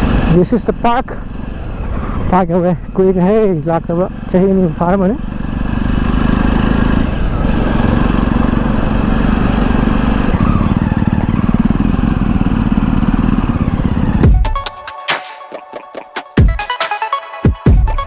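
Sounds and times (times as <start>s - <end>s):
motorcycle engines running: 0.0s - 14.5s.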